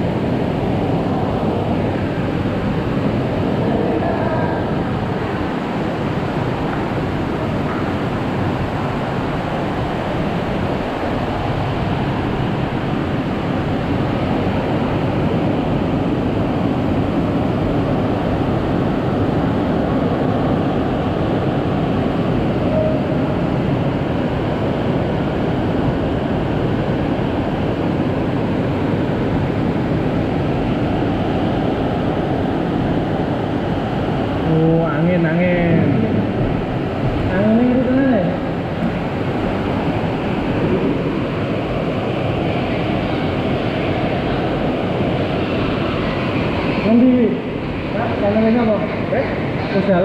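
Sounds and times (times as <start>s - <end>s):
strong gusting wind: 0.0s - 50.0s.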